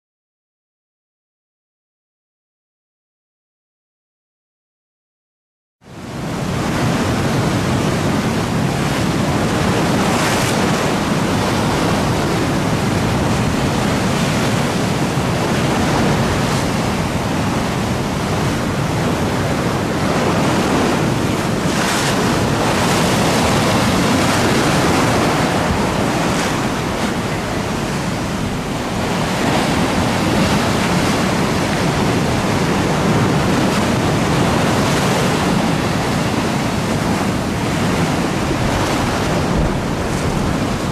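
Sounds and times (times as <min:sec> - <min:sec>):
waves breaking and splashing: 0:05.9 - 0:40.9
wind blowing across microphone: 0:05.9 - 0:40.9.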